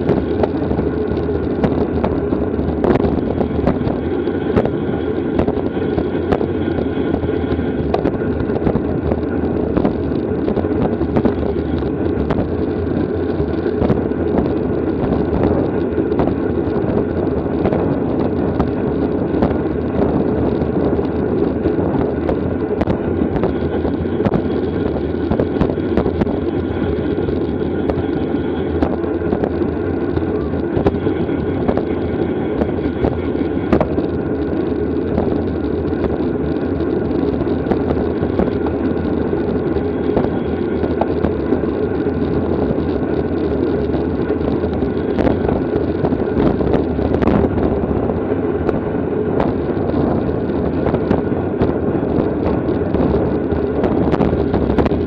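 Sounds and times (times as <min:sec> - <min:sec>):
bicycle road noise: 0:00.0 - 0:55.0
wind on microphone: 0:00.0 - 0:55.0.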